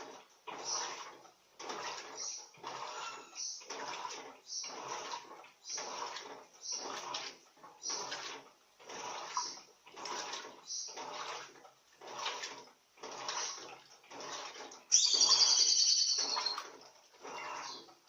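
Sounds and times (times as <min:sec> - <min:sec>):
washing machine water sloshing: 0:00.0 - 0:18.0.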